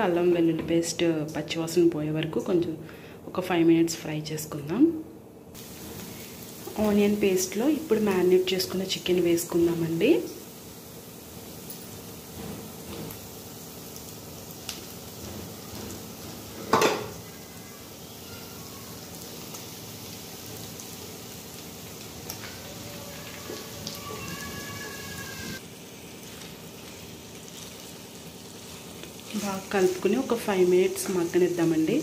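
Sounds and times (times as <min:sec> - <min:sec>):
sizzling in a pan: 0:05.5 - 0:32.0.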